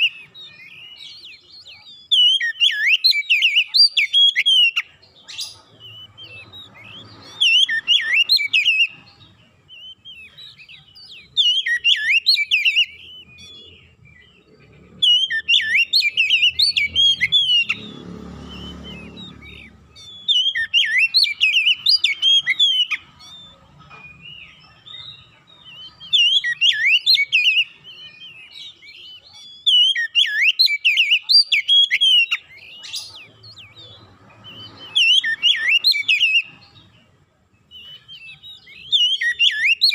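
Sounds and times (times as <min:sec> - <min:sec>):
bird singing whistled phrases: 0:00.0 - 0:37.0, 0:37.6 - 0:39.9.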